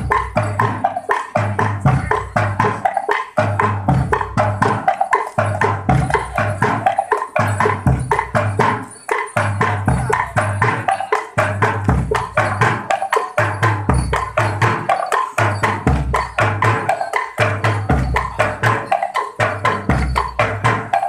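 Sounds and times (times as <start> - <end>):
deep drum beats: 0.0 - 21.0
quick even percussion knocks: 0.0 - 21.0
ringing pitched notes: 0.0 - 21.0.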